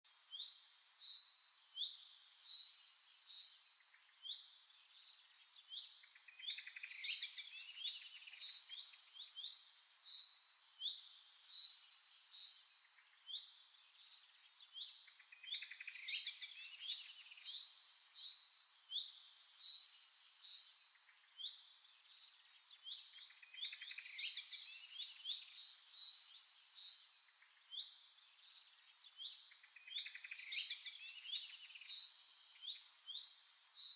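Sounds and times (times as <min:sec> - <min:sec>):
small birds chirping and trilling: 0:00.1 - 0:33.9.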